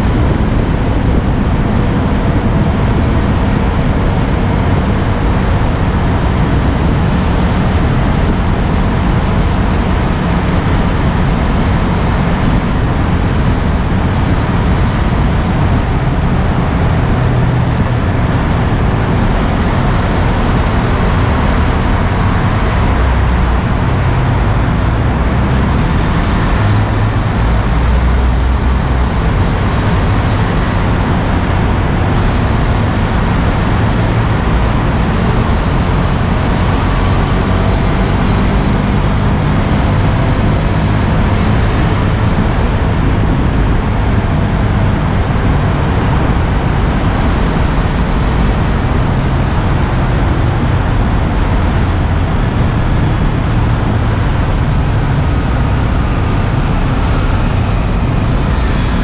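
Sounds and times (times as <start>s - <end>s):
motorcycle engine cruising: 0.0s - 59.0s
tunnel traffic noise: 0.0s - 59.0s
wind buffeting microphone: 0.0s - 59.0s.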